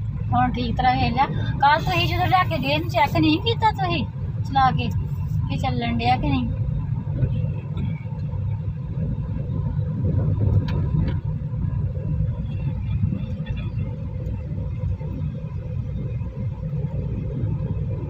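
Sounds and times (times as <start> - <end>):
car cabin engine and road noise: 0.0 - 18.0.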